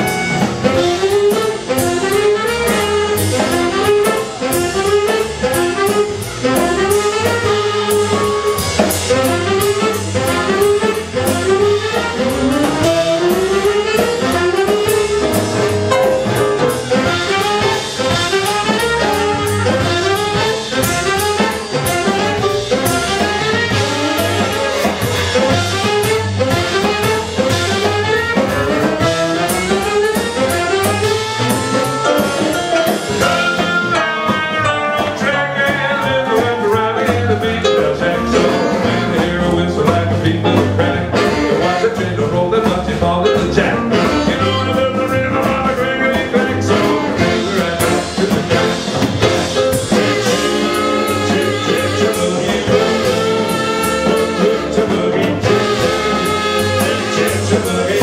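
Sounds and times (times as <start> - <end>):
drum kit: 0.0 - 58.0
horns: 0.0 - 58.0.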